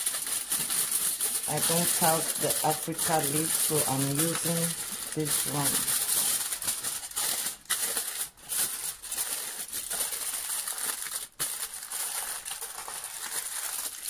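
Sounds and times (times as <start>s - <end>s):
aluminium foil crinkling: 0.0s - 14.0s.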